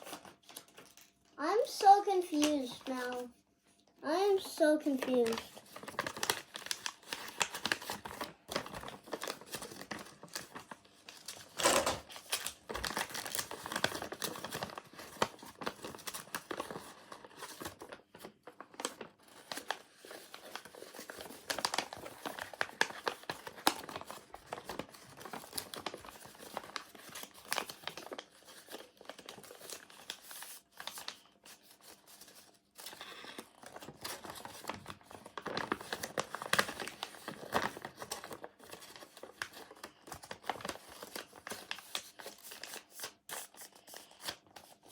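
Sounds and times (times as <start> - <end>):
paper crinkling and rustling: 0.0 - 3.4, 4.1 - 44.9.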